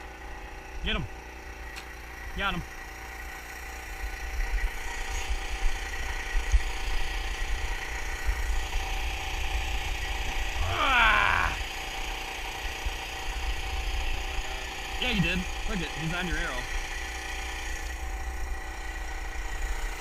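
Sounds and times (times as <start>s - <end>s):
portable generator running: 0.0s - 20.0s.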